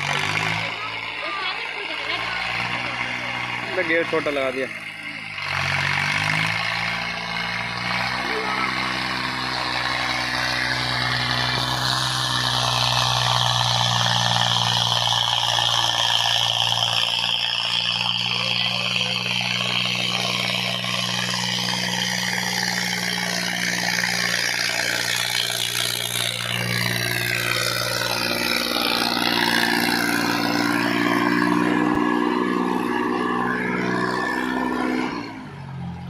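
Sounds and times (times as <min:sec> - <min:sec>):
higher engine note: 0:00.0 - 0:36.0
tractor diesel engine running: 0:00.0 - 0:36.0.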